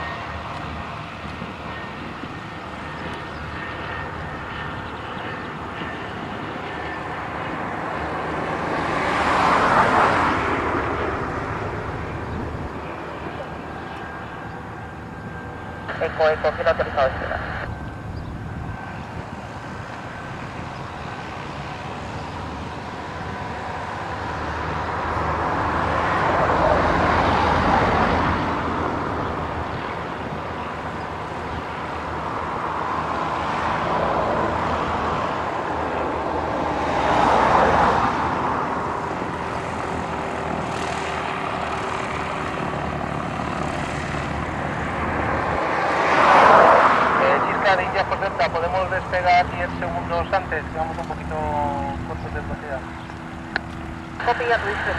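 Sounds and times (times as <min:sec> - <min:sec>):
propeller aircraft passing: 0:00.0 - 0:54.9.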